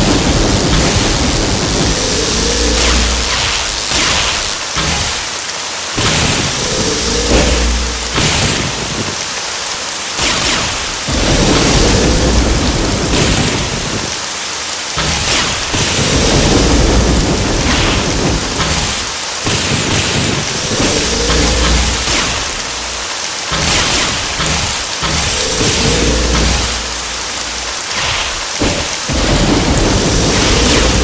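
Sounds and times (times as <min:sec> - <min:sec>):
rumbling thunder: 0:00.0 - 0:04.6, 0:06.0 - 0:09.2, 0:11.1 - 0:14.3, 0:15.0 - 0:31.0
heavy rain: 0:00.0 - 0:31.0.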